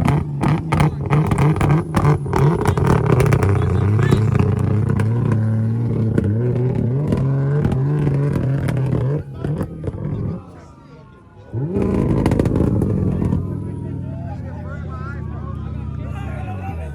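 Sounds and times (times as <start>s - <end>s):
car engine revving: 0.0s - 16.9s
crowd voices: 0.0s - 16.9s.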